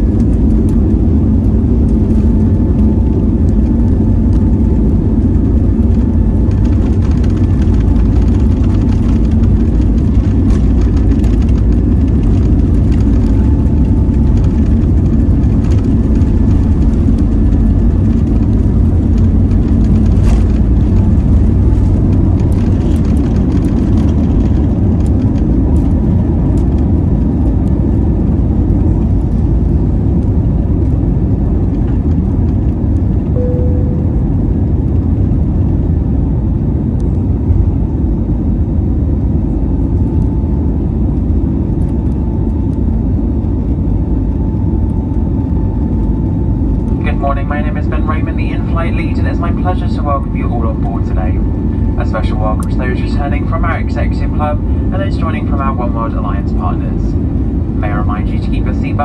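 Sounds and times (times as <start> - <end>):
jet engines rumbling: 0.0 - 59.0
wheels rumbling on runway: 0.0 - 59.0.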